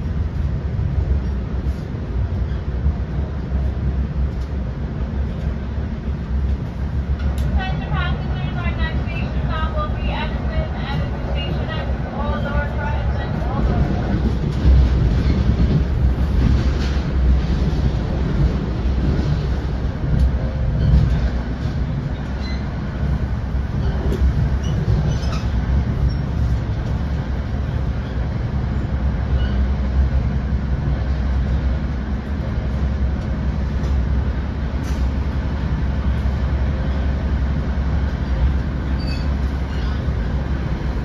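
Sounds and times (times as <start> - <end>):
train coach rumbling: 0.0 - 41.0.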